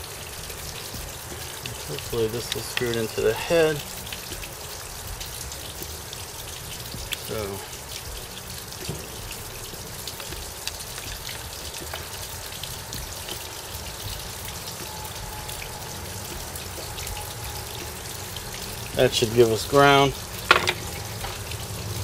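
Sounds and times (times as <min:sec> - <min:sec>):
steady hissing: 0:00.0 - 0:22.0.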